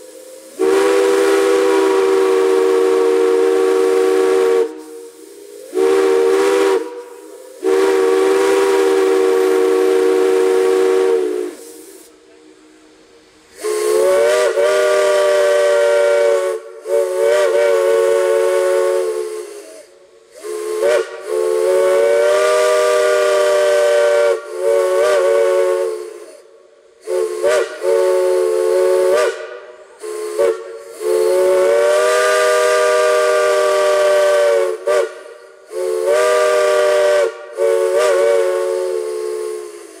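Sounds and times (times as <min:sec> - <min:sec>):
hiss of steam: 0:00.0 - 0:40.0
steam whistle blasts: 0:00.0 - 0:40.0.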